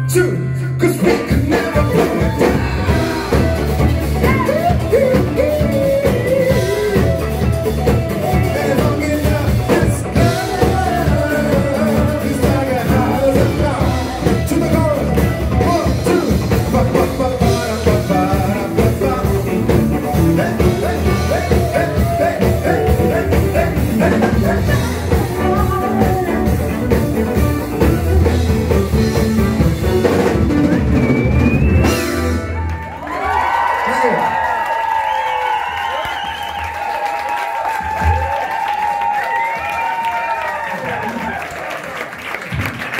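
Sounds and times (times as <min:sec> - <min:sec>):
live rock band playing: 0:00.0 - 0:34.2, 0:37.6 - 0:41.1.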